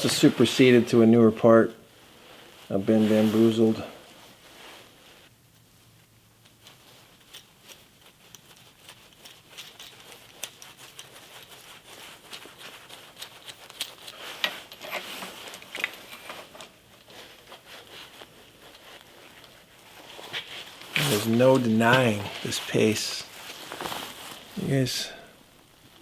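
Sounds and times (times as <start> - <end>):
rustling: 1.9 - 26.0.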